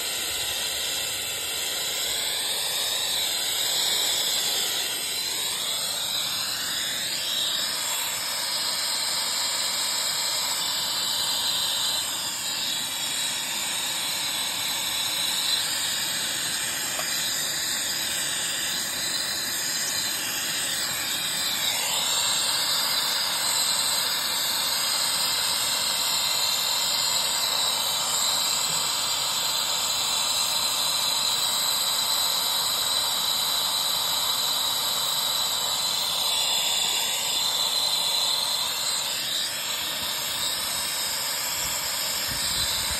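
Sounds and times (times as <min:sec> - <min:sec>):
gas torch flame hissing: 0:00.0 - 0:42.9.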